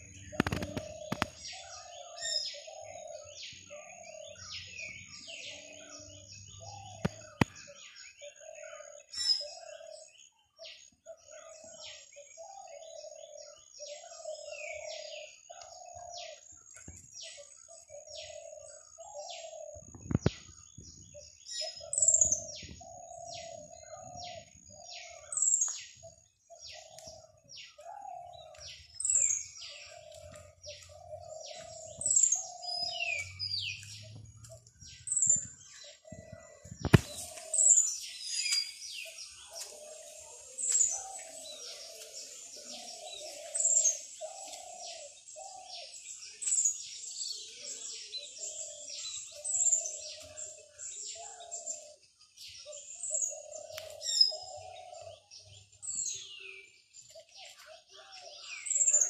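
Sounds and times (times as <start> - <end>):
birds chirping: 0.0 - 59.0
lower bird call: 0.0 - 59.0.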